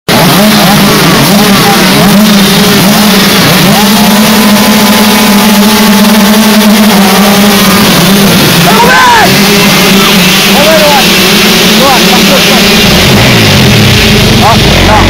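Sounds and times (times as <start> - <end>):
motocross bikes revving: 0.1 - 15.0.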